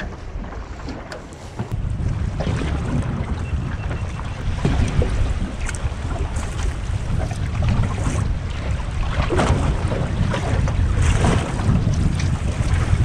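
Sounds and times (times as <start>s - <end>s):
waves slapping boat hull: 0.0s - 13.0s
wind buffeting microphone: 0.0s - 13.0s.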